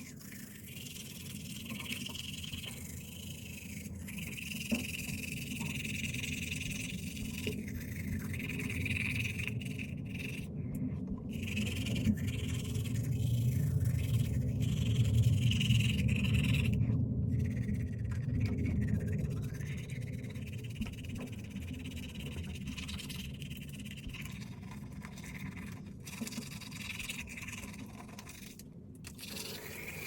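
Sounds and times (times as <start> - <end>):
toothbrush scrubbing teeth: 0.0 - 30.0.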